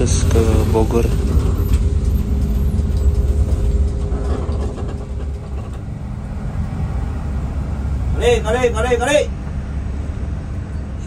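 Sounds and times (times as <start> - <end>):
bus engine low rumble: 0.0 - 11.0.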